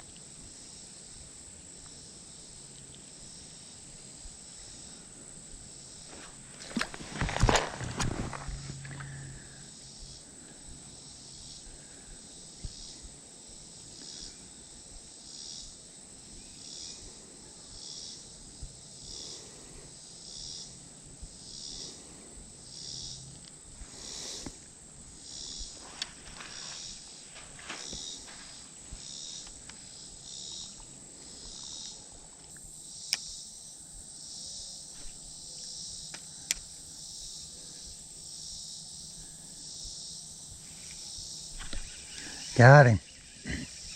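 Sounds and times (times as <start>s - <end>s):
insect pulsing chirp: 0.0s - 43.9s
insects trilling: 0.0s - 43.9s.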